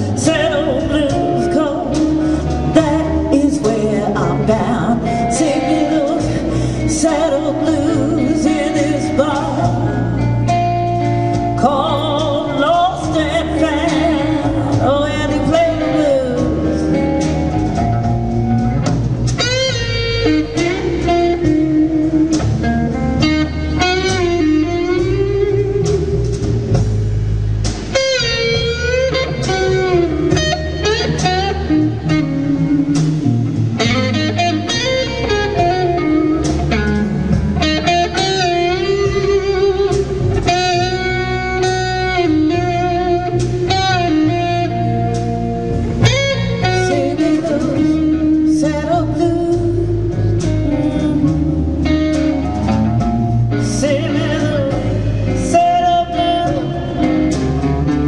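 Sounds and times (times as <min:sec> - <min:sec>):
bass: 0:00.0 - 0:58.0
drums: 0:00.0 - 0:58.0
electric guitar solo: 0:00.0 - 0:58.0.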